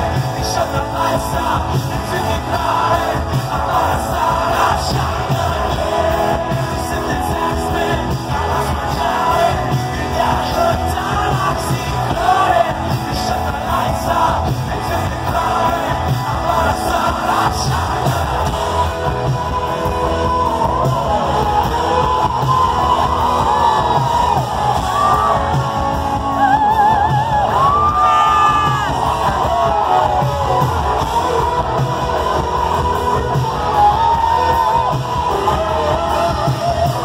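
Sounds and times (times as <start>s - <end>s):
bass guitar: 0.0s - 37.0s
drums: 0.0s - 37.0s
electric guitars: 0.0s - 37.0s.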